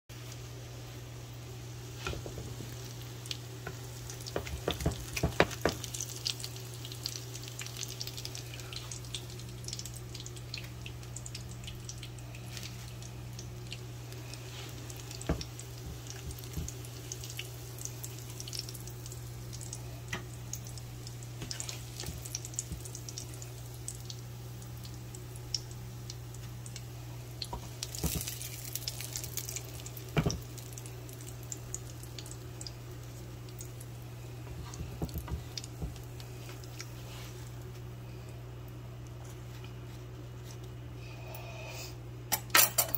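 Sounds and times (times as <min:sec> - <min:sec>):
fish sizzling in oil: 0:00.2 - 0:37.7.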